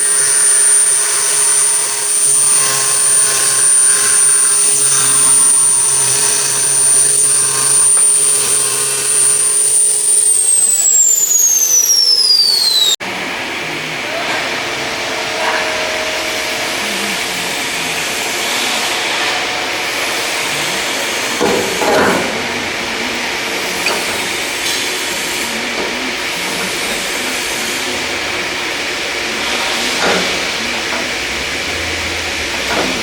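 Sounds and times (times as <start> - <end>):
machine hissing and whining: 0.0 - 33.0.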